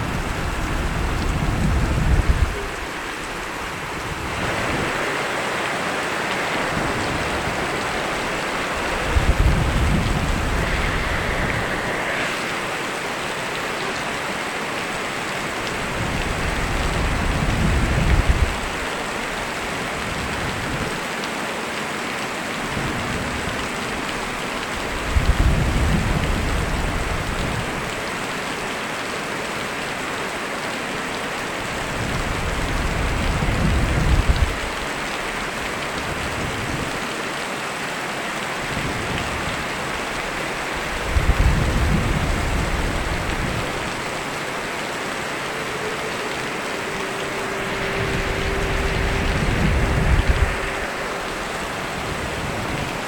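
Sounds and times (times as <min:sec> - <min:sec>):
thunder rumbling: 0:00.0 - 0:20.9, 0:25.0 - 0:27.8, 0:31.9 - 0:36.9, 0:38.8 - 0:53.0
heavy rain: 0:00.0 - 0:53.0.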